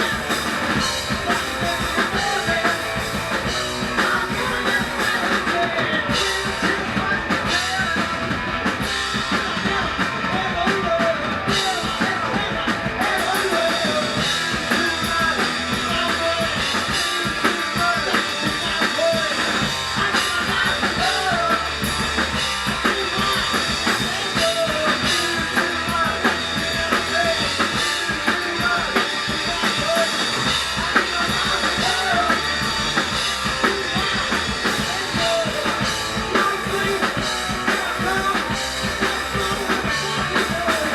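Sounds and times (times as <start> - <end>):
bass guitar: 0.0 - 40.9
distorted electric guitars: 0.0 - 40.9
drum kit: 0.0 - 40.9.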